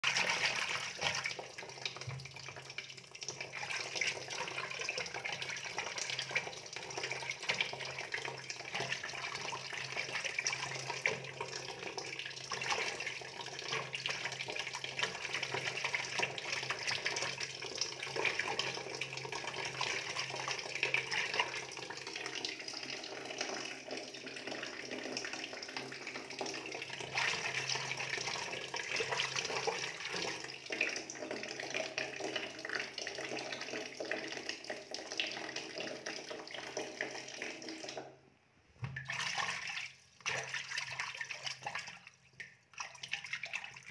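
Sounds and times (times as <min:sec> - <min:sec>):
running water: 0:00.0 - 0:38.1.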